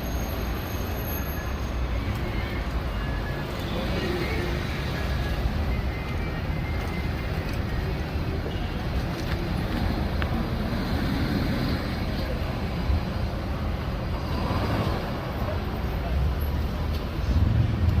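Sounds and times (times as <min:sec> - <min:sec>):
low rumble of vehicle traffic: 0:00.0 - 0:18.0.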